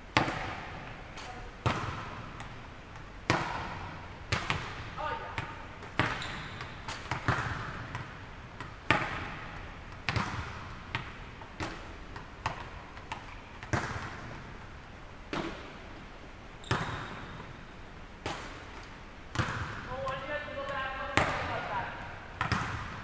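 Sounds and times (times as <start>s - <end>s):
volleyballs smacking and bouncing: 0.0s - 23.0s.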